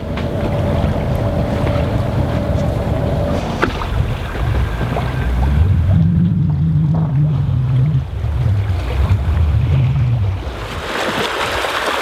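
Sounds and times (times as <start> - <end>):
ship engine low drone: 0.0 - 11.8.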